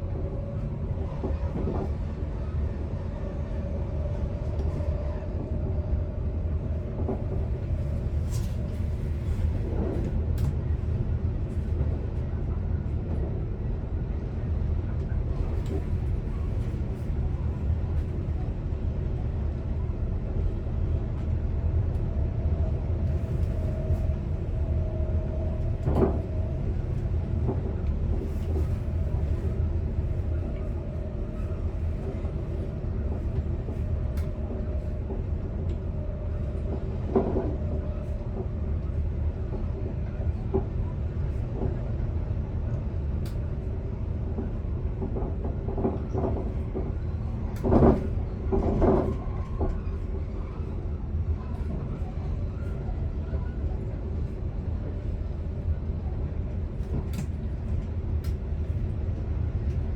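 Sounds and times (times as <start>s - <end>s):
train cab rumble and hum: 0.0s - 59.9s.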